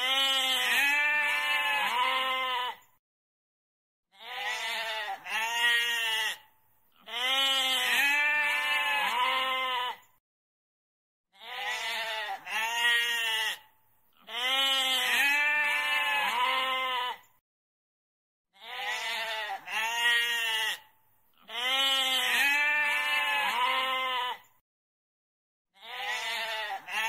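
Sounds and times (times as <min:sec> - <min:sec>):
goat bleating: 0:00.0 - 0:02.9, 0:04.1 - 0:10.1, 0:11.4 - 0:17.3, 0:18.6 - 0:24.5, 0:25.8 - 0:27.0.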